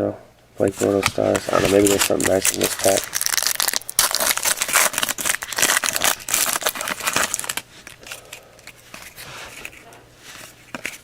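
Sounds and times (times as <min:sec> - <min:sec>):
wrapper crinkling: 0:00.8 - 0:11.0.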